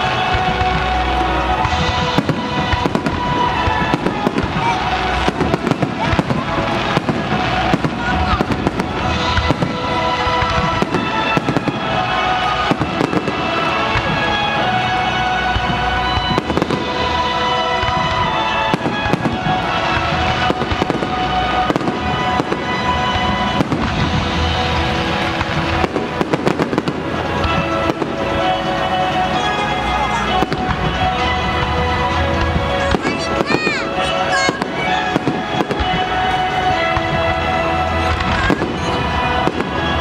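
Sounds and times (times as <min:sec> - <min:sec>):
fireworks bangs and crackles: 0:00.0 - 0:40.0
music playing: 0:00.0 - 0:40.0.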